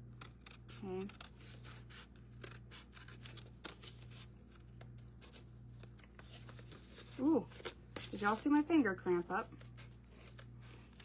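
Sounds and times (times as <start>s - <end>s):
scissors cutting cardboard: 0.0s - 8.8s, 9.4s - 11.0s.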